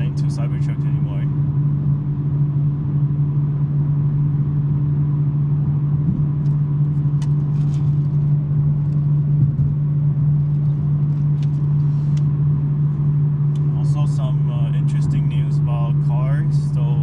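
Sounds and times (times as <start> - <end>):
car exhaust droning: 0.0 - 17.0.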